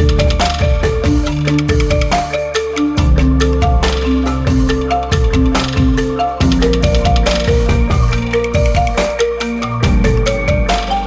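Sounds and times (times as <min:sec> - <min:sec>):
bass line: 0:00.0 - 0:11.0
mallet percussion melody: 0:00.0 - 0:11.0
steady beat: 0:00.0 - 0:11.0.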